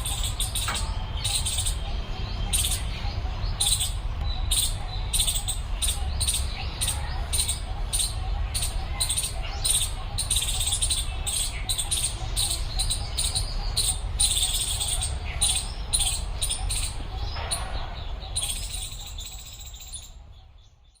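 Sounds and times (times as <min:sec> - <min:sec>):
small birds chirping sharply: 0:00.0 - 0:21.0.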